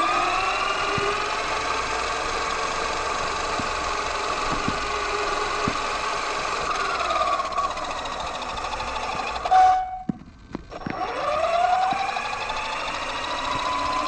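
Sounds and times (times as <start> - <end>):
electric motor whining: 0.0 - 14.0
toy truck knocking over bumps: 0.8 - 14.0.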